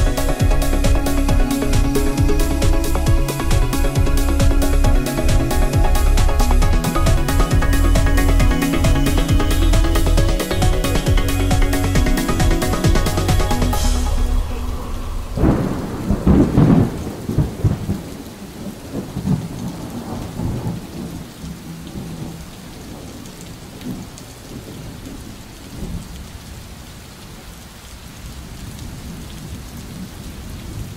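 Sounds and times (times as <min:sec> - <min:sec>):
thunder rumbling: 0:00.0 - 0:26.1
steady rain: 0:00.0 - 0:30.9.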